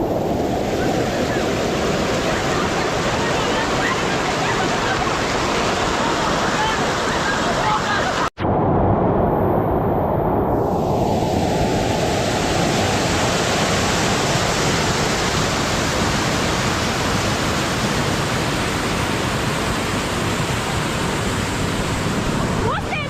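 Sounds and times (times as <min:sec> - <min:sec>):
floodwater rushing: 0:00.0 - 0:08.3, 0:10.6 - 0:23.0.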